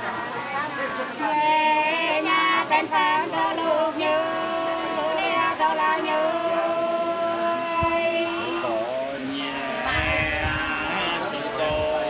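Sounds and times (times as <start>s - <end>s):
person singing unaccompanied: 1.2s - 12.0s.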